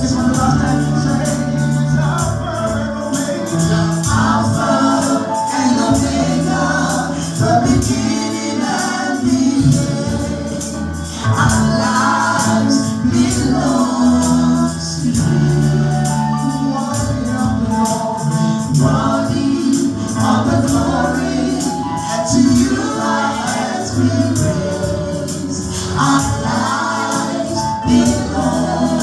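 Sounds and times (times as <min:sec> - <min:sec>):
band playing gospel music: 0:00.0 - 0:29.0
choir singing: 0:00.0 - 0:29.0
held bass notes: 0:00.0 - 0:29.0
tambourine beat: 0:00.0 - 0:29.0.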